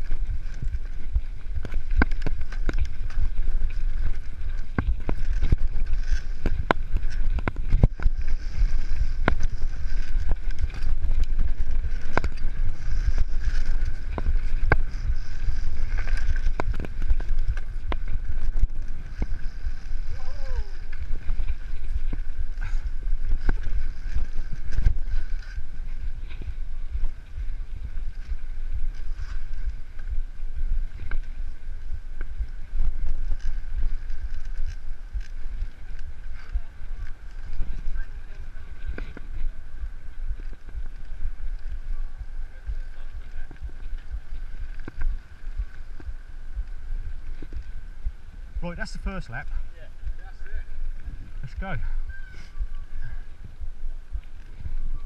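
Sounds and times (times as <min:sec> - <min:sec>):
bike knocking and rattling: 0:00.0 - 0:51.7
wind buffeting microphone: 0:00.0 - 0:55.0.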